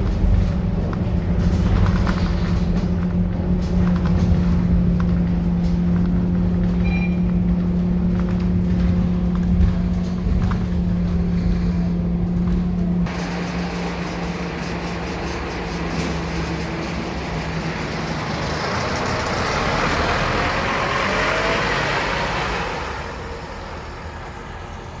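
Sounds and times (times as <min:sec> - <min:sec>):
bus engine hum: 0:00.0 - 0:25.0
road noise: 0:00.0 - 0:25.0.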